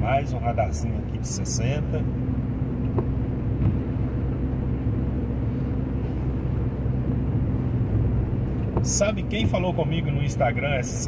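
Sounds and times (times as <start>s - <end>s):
car engine hum: 0.0s - 11.0s
road and tyre noise: 0.0s - 11.0s.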